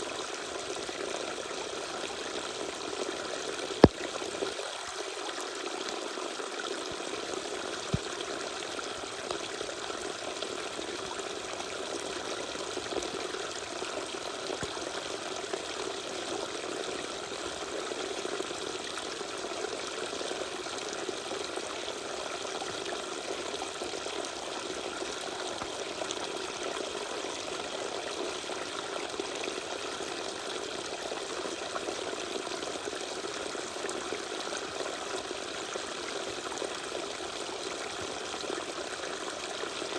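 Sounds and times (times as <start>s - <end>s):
small waterfall trickling: 0.0s - 39.9s.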